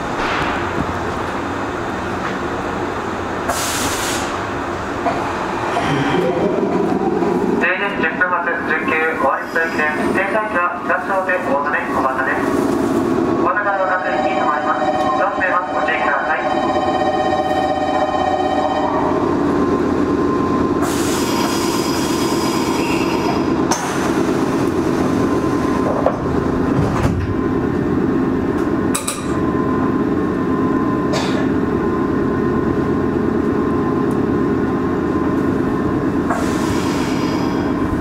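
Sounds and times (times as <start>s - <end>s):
electric train rumbling on rails: 0.0s - 38.0s.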